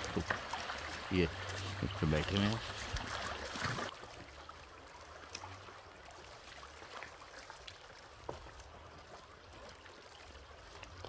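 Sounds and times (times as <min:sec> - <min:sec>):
river water trickling: 0:00.0 - 0:11.0.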